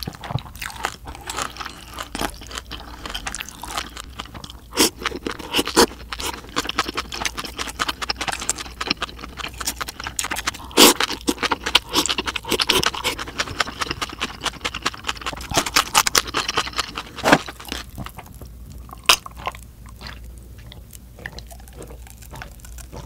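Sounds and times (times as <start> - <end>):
wet chewing and mouth clicks: 0.0 - 23.0.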